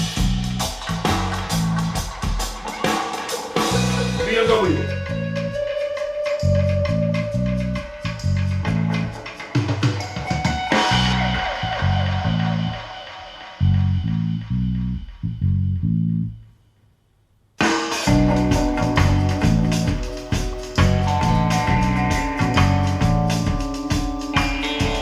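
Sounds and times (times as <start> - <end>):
band music through loudspeakers: 0.0 - 13.1, 17.9 - 25.0.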